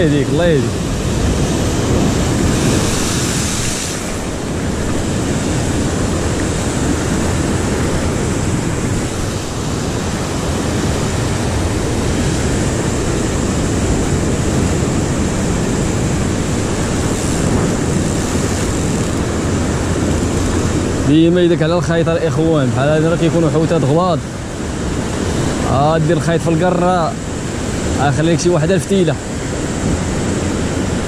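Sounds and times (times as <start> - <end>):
waves breaking on rocks: 0.0 - 31.0
wind buffeting microphone: 0.0 - 31.0.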